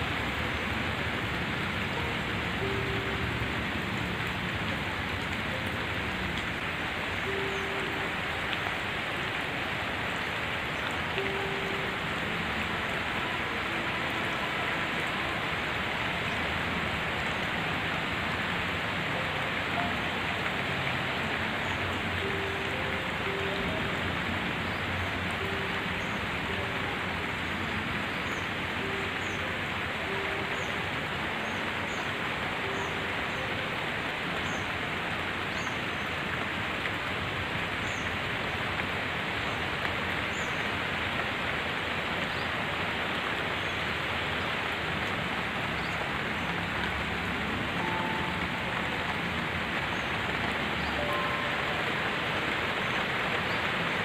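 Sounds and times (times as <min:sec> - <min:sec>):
rain on leaves: 0:00.0 - 0:54.0.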